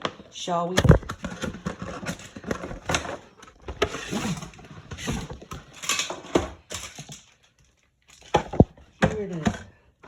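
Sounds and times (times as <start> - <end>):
packaging rustling and scraping: 0.0 - 9.4.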